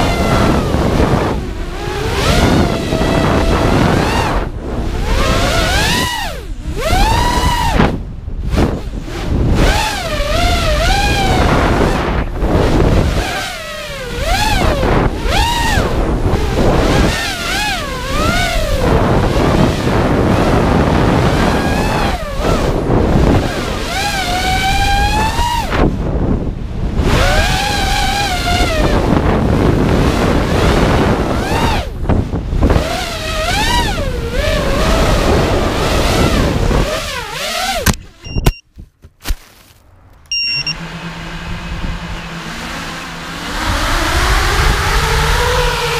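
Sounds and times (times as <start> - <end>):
drone motors whining: 0.0 - 38.6, 39.8 - 45.9
wind rushing on microphone: 0.0 - 38.9, 40.5 - 45.9.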